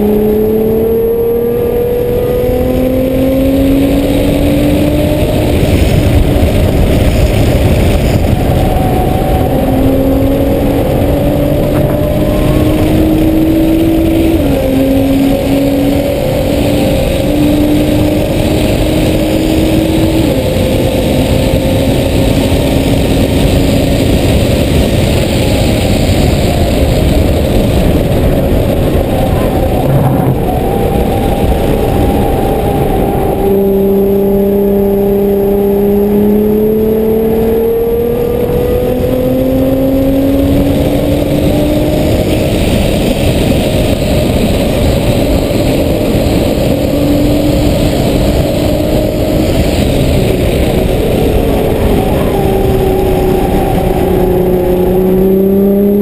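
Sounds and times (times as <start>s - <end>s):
road and tyre noise: 0.0s - 56.0s
sports car engine accelerating: 0.0s - 56.0s.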